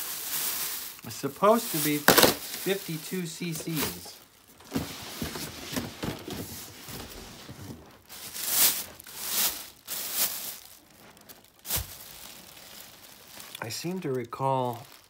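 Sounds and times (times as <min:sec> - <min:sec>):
plastic bag rustling and crinkling: 0:00.0 - 0:15.0.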